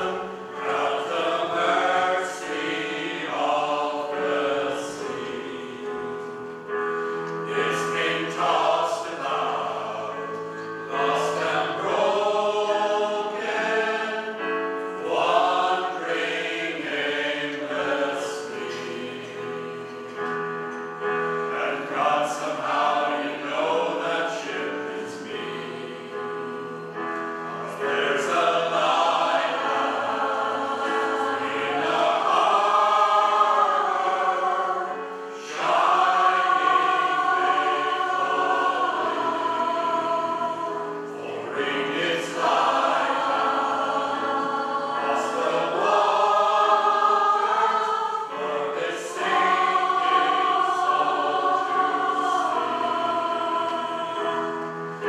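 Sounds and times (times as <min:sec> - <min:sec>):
gospel choir singing in harmony: 0:00.0 - 0:55.0
keyboard accompaniment: 0:00.0 - 0:55.0.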